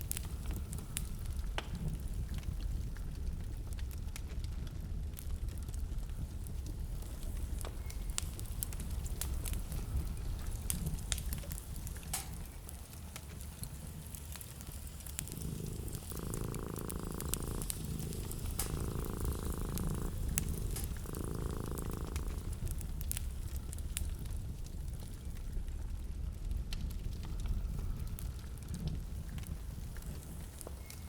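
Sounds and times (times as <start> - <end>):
fire pops: 0.0 - 31.0
wood fire crackling: 0.0 - 31.0.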